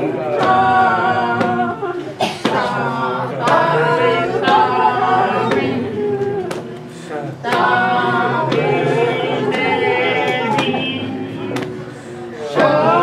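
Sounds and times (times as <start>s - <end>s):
group singing together: 0.0s - 13.0s
sharp tapping beat: 0.3s - 11.9s.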